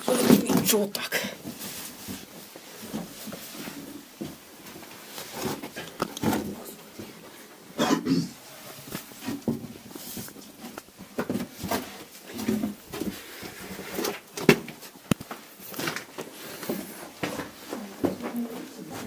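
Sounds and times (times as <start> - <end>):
scuffs and knocks of clambering: 0.0 - 7.7, 8.5 - 19.0.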